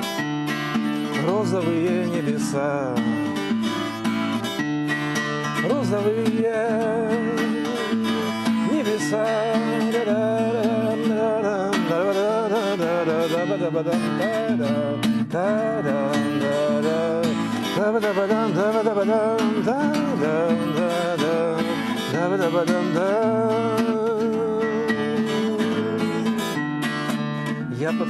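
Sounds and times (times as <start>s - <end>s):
acoustic guitar accompaniment: 0.0s - 28.0s.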